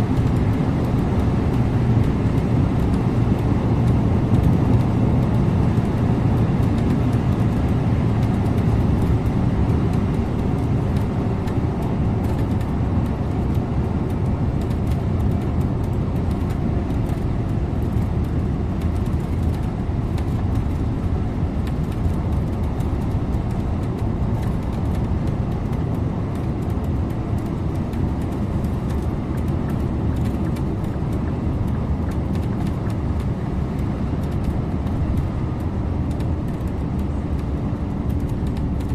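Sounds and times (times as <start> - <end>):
bus engine hum: 0.0 - 38.9
tyre and road noise: 0.0 - 38.9.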